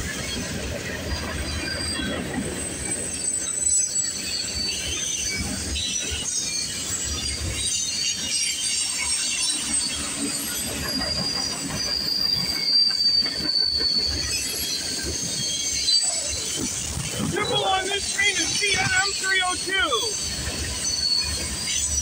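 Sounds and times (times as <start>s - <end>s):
train wheel flanges squealing: 0.0s - 22.0s
train wheels rumbling on rails: 0.0s - 22.0s.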